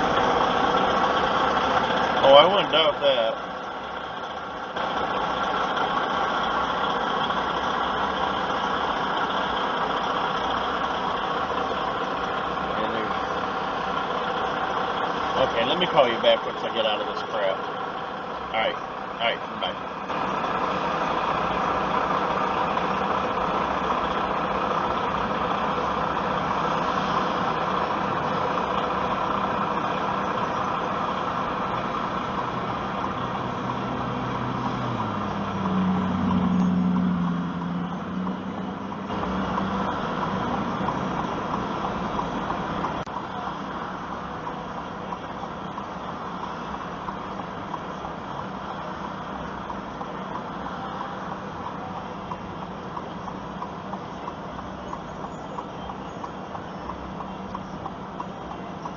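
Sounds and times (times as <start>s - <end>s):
car engine and road noise: 0.0s - 58.9s
low engine note rising: 0.0s - 58.9s.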